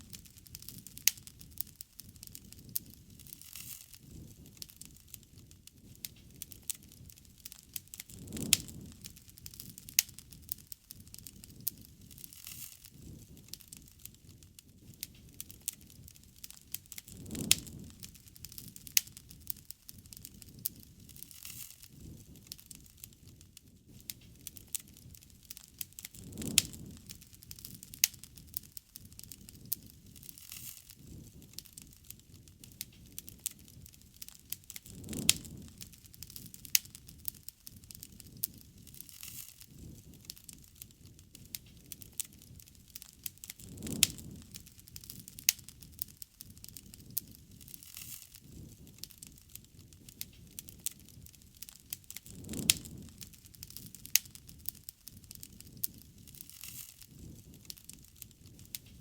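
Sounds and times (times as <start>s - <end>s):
campfire crackling: 0.0s - 59.0s
loud pops of fire: 0.0s - 59.0s
low rush of flames: 0.0s - 59.0s.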